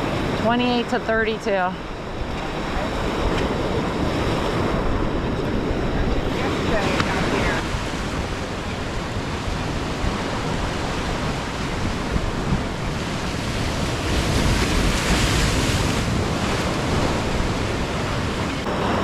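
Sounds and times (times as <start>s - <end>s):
ocean surf washing: 0.0s - 19.0s
wind rumbling on microphone: 0.0s - 19.0s.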